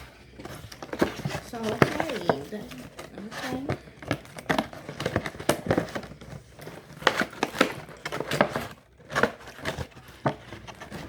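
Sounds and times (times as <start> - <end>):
food packaging crinkling: 0.0 - 11.0.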